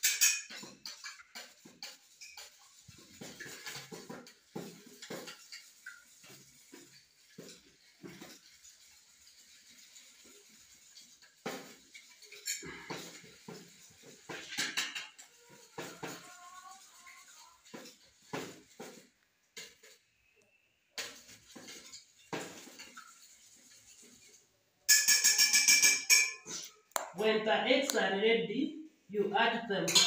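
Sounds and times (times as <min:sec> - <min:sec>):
metal spoon beating eggs in bowl: 0:00.0 - 0:20.0, 0:21.0 - 0:27.1.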